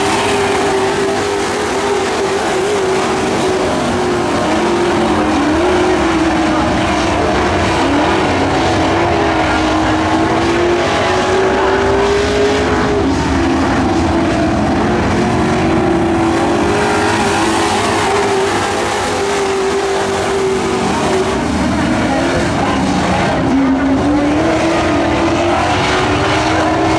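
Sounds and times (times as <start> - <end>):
racing truck engines at high revs: 0.0 - 26.9.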